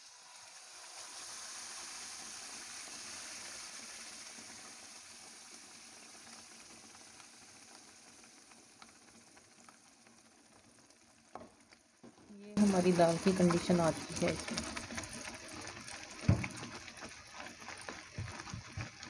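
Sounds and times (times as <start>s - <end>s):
paste sizzling in hot fat: 0.0s - 19.0s.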